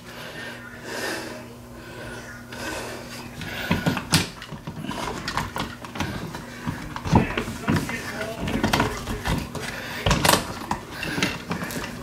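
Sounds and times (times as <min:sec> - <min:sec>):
faint steady hum: 0:00.0 - 0:12.0
wires rustling and scraping: 0:02.0 - 0:12.0.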